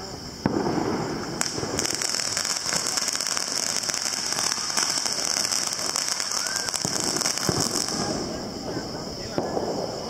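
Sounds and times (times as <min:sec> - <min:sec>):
firework crackling: 0:00.0 - 0:10.0.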